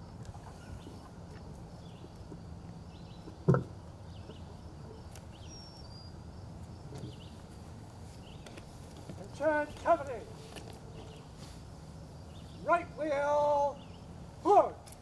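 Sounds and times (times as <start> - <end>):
birds chirping faintly: 0.0 - 14.5.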